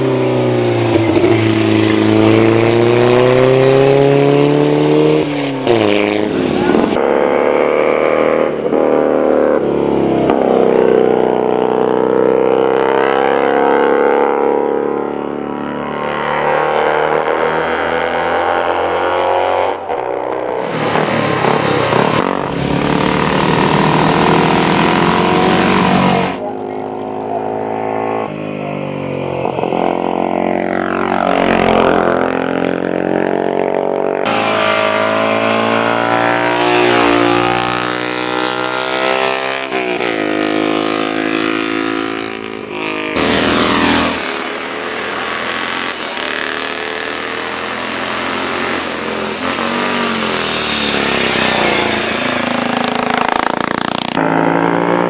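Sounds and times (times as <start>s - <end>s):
racing motorcycles revving and passing: 0.0s - 55.0s.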